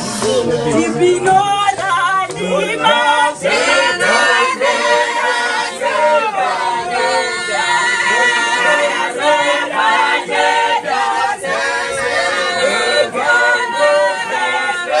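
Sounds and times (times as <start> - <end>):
congregation singing a hymn: 0.1 - 15.0.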